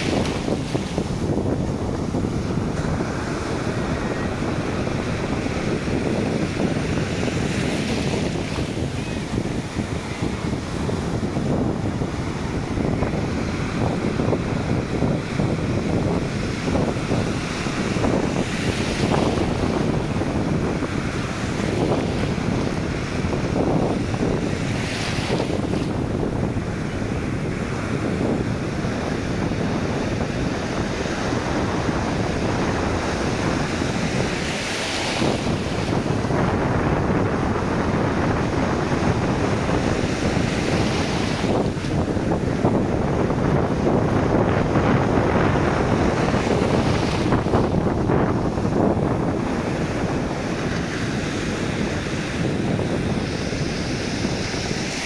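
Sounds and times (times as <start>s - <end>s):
surf washing over beach: 0.0s - 55.0s
wind buffeting microphone: 0.0s - 55.0s.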